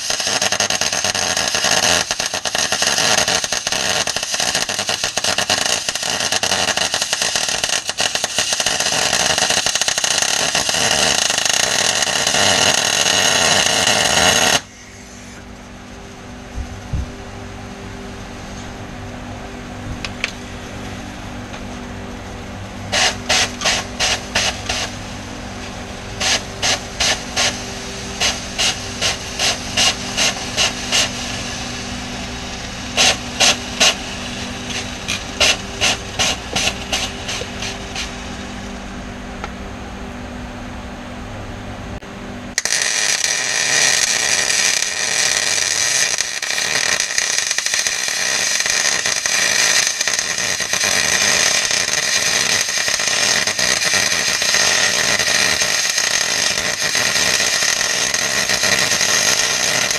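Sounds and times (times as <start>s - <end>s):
welding arc crackling and hissing: 0.0s - 17.2s, 19.9s - 39.0s, 42.5s - 59.9s
steady hum: 0.0s - 59.9s.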